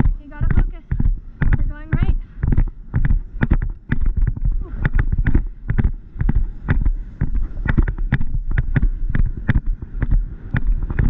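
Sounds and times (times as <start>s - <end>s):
horse hoofbeats on grass: 0.0s - 11.0s
wind rumble on microphone: 0.0s - 11.0s.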